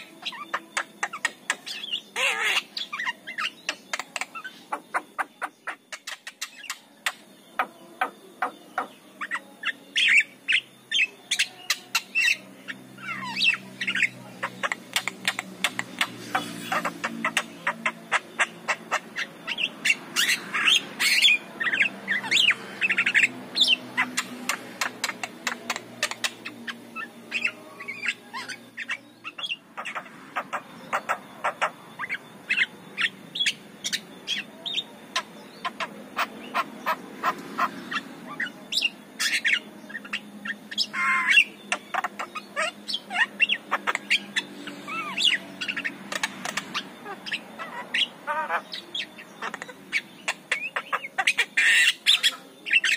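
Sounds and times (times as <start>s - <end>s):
bird chattering and whistling: 0.0s - 52.9s.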